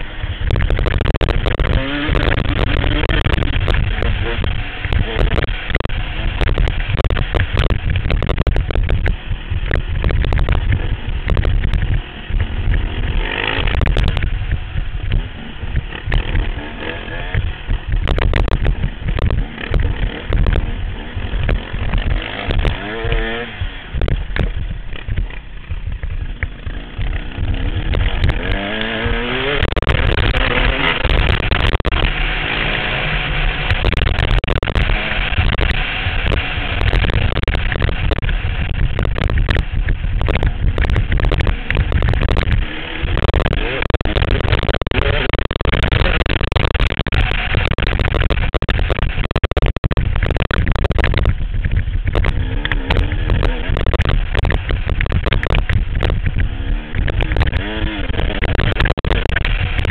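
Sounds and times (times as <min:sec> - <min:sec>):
knocks and crackles: 0:00.0 - 0:59.9
motorbike engine revving: 0:00.0 - 0:59.9.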